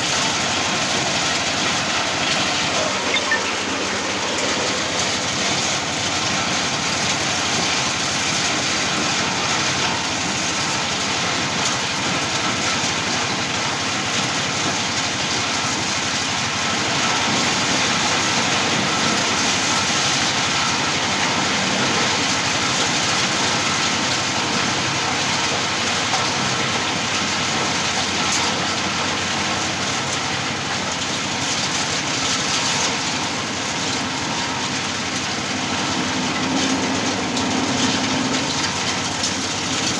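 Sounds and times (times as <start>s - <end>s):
dehusking machine rattling: 0.0s - 39.9s.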